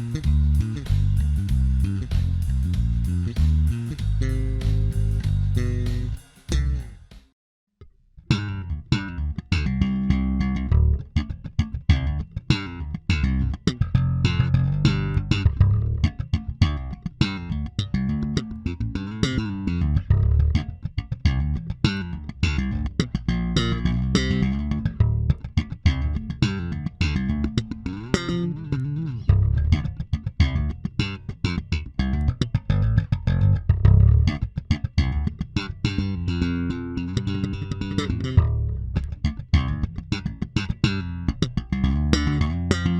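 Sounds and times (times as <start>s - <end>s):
electric bass guitar playing fast notes: 0.0s - 7.2s, 8.3s - 42.9s.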